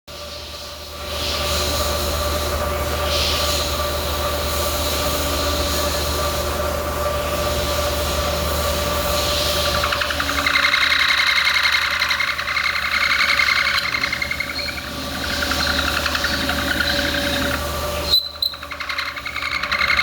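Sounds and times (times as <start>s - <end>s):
metal lathe humming and whining: 1.1s - 20.0s.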